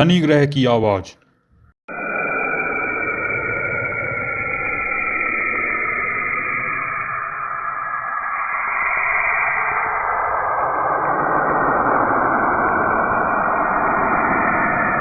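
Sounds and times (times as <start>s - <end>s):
rushing hiss with whistling tones: 1.9s - 15.0s.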